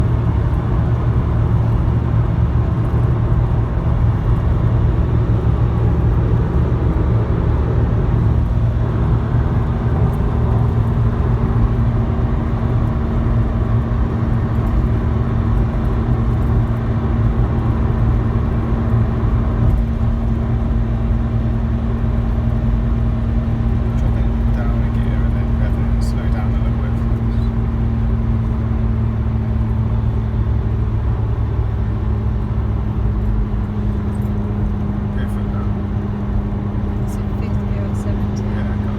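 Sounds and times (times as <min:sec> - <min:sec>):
car engine low drone: 0:00.0 - 0:38.9
constant humming tone: 0:00.0 - 0:38.9.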